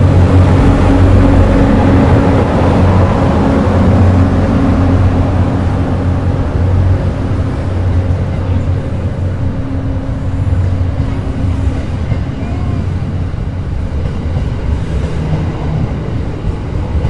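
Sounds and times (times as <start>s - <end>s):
train cars rolling on rails: 0.0s - 17.0s.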